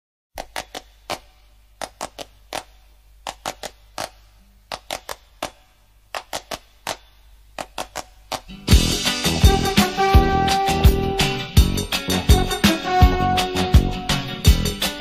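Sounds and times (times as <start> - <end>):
rhythmic percussive claps: 0.4 - 15.0.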